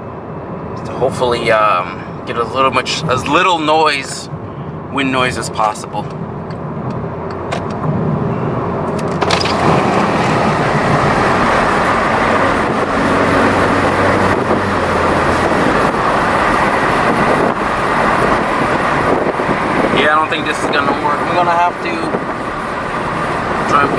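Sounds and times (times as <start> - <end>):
low exhaust hum: 0.0 - 23.9
wind and road noise rushing: 0.0 - 23.9.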